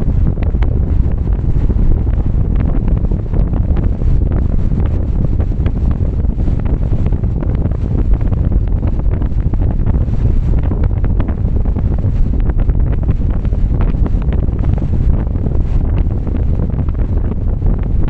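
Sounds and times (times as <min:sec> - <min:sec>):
wind and road noise: 0:00.0 - 0:18.0.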